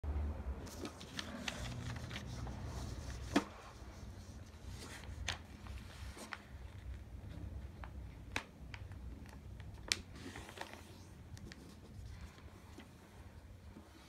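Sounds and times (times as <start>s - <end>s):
paper rustling on a table: 0.6s - 7.5s, 9.2s - 14.0s.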